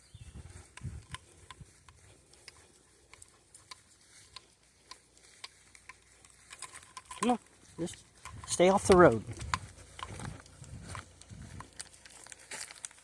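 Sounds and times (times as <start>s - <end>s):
footsteps on a trail: 0.0s - 13.0s.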